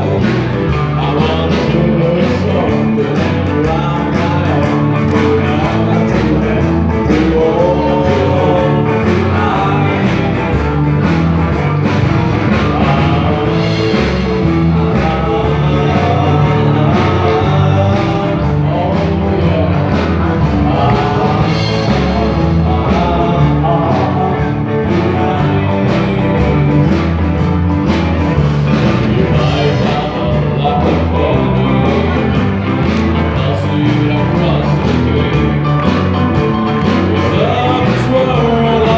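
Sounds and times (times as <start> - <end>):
person singing: 0.0 - 38.9
rock band playing: 0.0 - 38.9.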